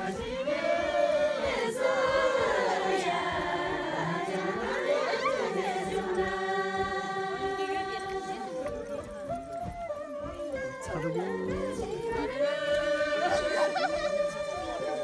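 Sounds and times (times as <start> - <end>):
women singing unaccompanied: 0.0 - 15.0.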